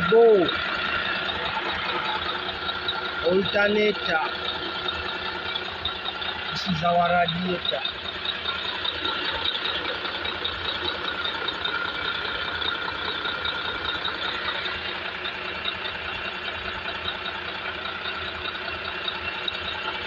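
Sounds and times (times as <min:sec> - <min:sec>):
diesel engine clattering: 0:00.0 - 0:20.0.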